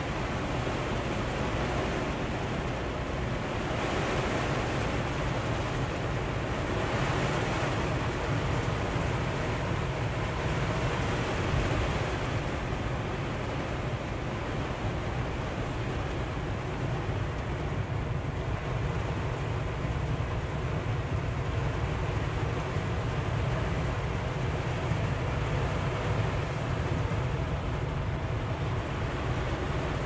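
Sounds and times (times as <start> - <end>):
heavy rain on a vehicle roof: 0.0 - 30.0
low steady rumble: 0.0 - 30.0.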